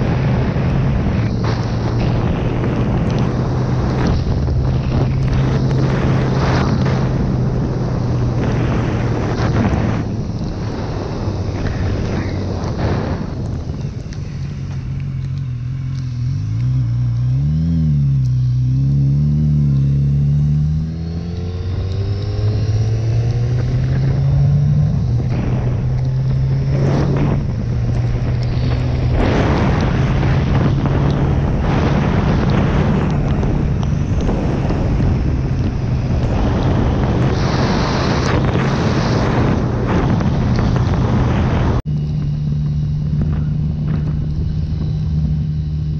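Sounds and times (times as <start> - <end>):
motorcycle engine: 0.0 - 45.9
wind and road noise: 0.0 - 45.9.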